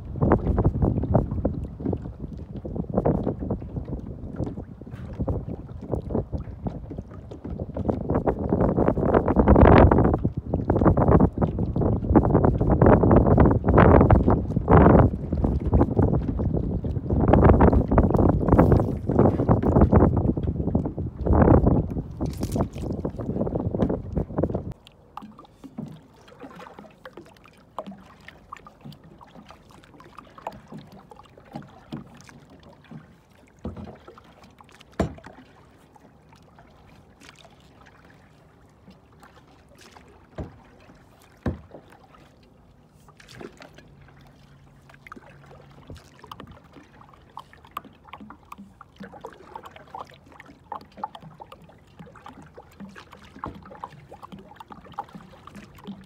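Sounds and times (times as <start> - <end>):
knocks and clicks on hull: 0.0 - 56.0
water lapping against kayak hull: 0.0 - 56.0.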